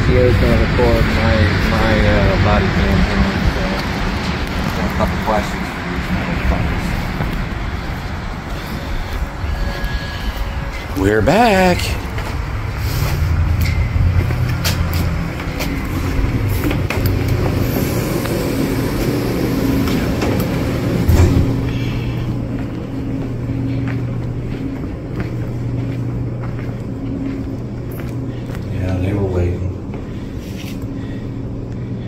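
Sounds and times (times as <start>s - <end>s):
footsteps: 0.0s - 31.1s
steady low hum: 0.0s - 32.0s.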